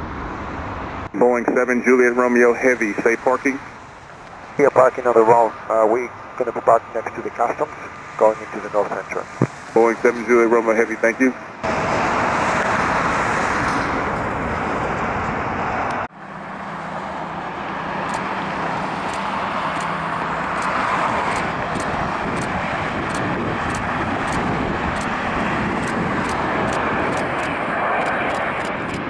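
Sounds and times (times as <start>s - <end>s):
jet engines running: 0.0s - 29.0s.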